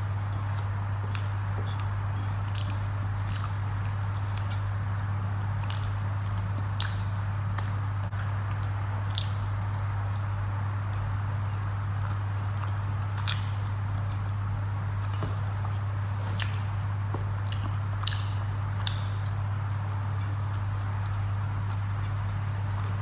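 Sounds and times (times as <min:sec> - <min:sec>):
steady low hum: 0:00.0 - 0:23.0
fingers squishing food: 0:00.2 - 0:23.0
wet chewing and lip-smacking: 0:00.2 - 0:23.0.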